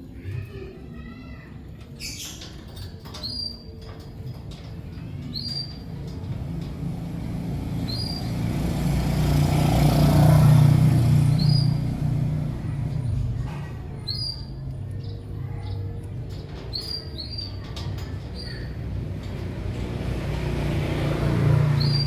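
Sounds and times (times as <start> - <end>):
road vehicle rumble: 0.0 - 22.0.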